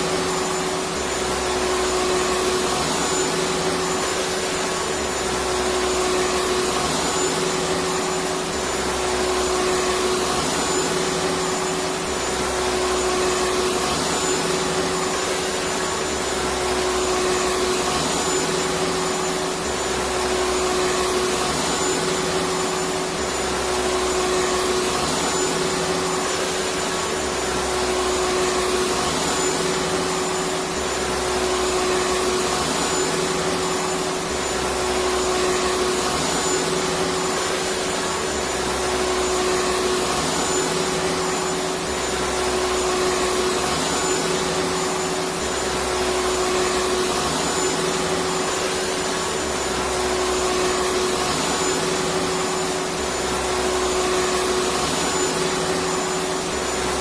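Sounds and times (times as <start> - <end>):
vacuum cleaner whining: 0.0 - 57.0.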